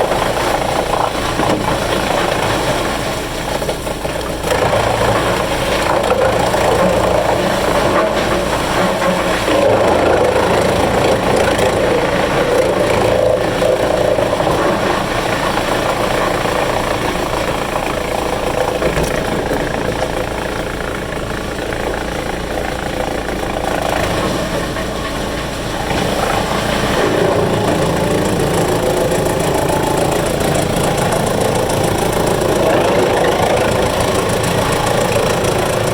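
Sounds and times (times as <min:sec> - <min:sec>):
wood chipper engine running: 0:00.0 - 0:35.9.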